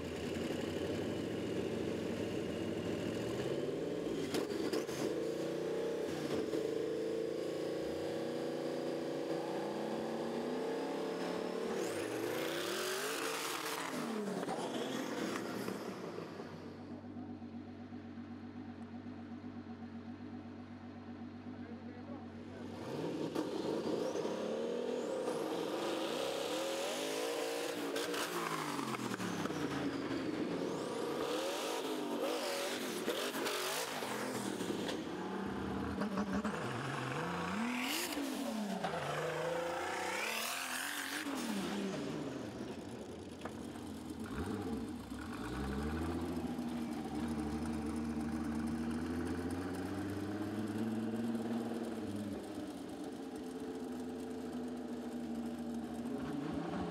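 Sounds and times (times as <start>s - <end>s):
tractor engines revving hard: 0.0s - 16.4s, 22.6s - 56.9s.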